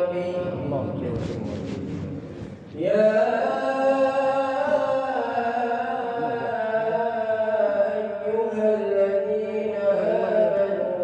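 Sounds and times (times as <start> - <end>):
man chanting a recitation: 0.0 - 11.0.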